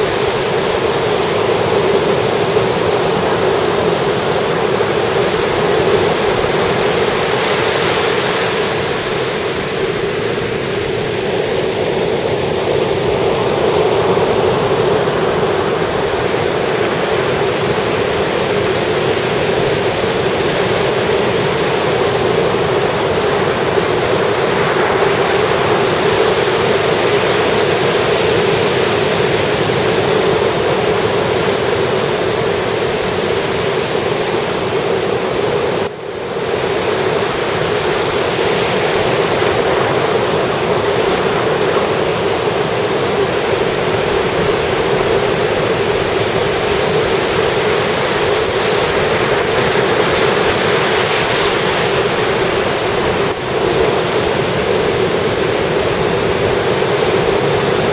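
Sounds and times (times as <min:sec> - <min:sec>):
ocean surf washing onto beach: 0:00.0 - 0:57.9.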